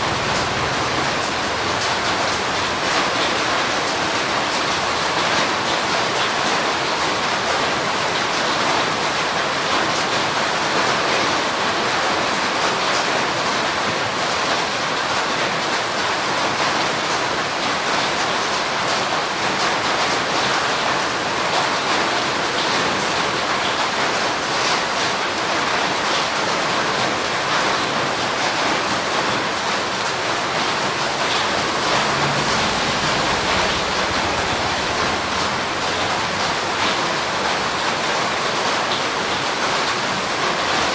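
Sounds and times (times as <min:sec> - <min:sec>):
heavy rainfall: 0:00.0 - 0:40.9
spatters of raindrops: 0:00.0 - 0:40.9.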